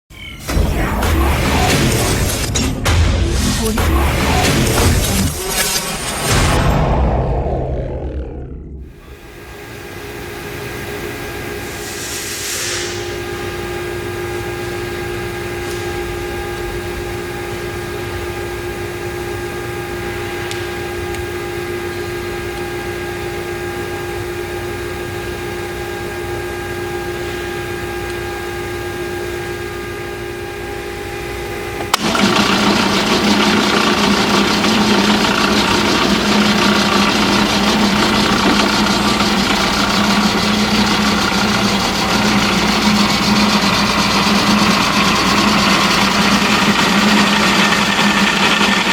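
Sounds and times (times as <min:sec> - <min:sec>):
drill press running: 0:00.3 - 0:11.8, 0:13.0 - 0:48.9.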